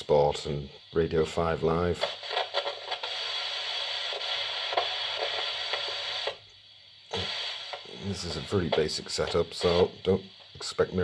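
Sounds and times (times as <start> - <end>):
thin hissy radio broadcast: 0.0 - 11.0.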